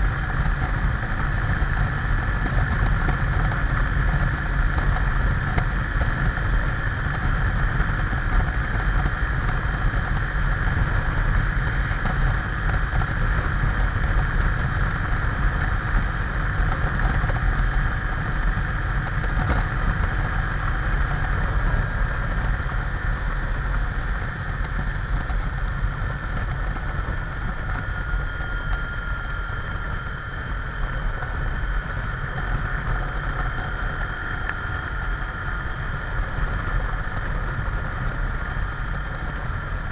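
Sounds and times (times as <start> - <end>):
motorcycle engine running: 0.0 - 39.9
wind noise rumble: 0.0 - 39.9.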